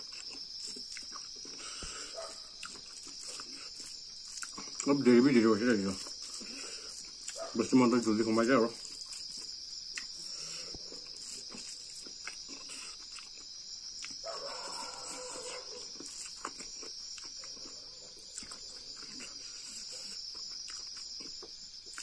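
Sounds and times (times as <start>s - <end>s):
chewing: 0.0s - 22.0s
insects chirring: 0.0s - 22.0s.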